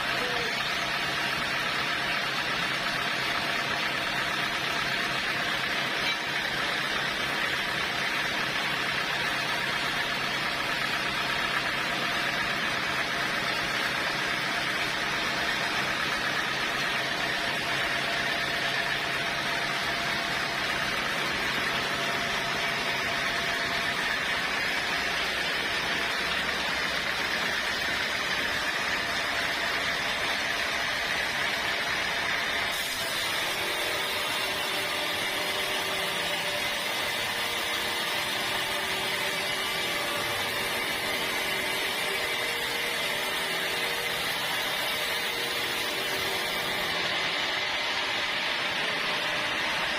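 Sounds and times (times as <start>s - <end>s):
sawmill saw cutting logs: 0.0s - 49.9s.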